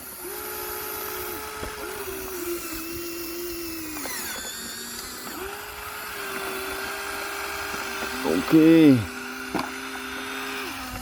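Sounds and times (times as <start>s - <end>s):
small electric motor whining: 0.0s - 11.0s.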